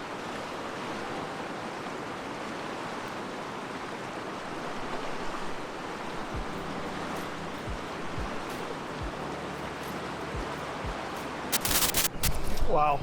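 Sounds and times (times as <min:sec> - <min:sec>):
river flowing: 0:00.0 - 0:12.8.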